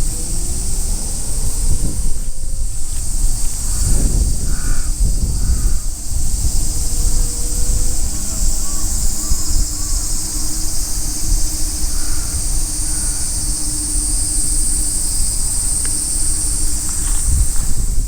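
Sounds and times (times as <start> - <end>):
high-pitched insect chorus: 0.0 - 18.0
wind rumbling on microphone: 0.0 - 18.0.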